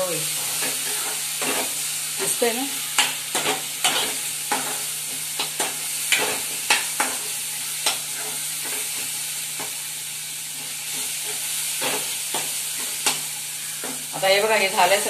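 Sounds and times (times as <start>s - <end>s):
sizzling in oil: 0.0s - 15.0s.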